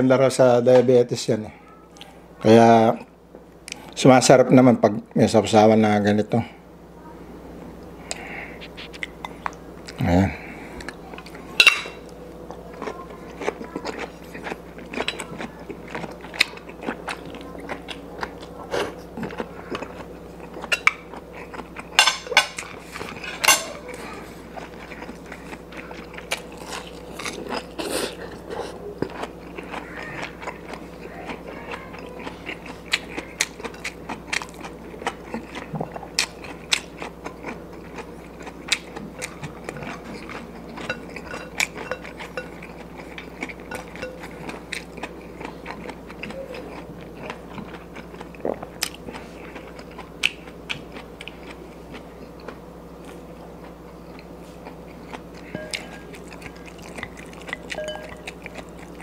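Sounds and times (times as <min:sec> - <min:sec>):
person chewing with mouth smacks: 0:08.0 - 0:10.0, 0:10.7 - 0:59.0.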